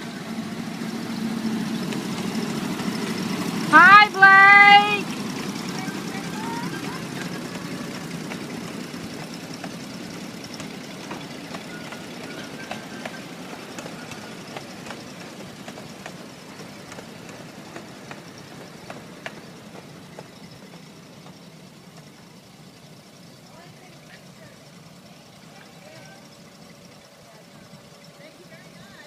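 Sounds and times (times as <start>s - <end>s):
small train rumbling: 0.0s - 29.0s.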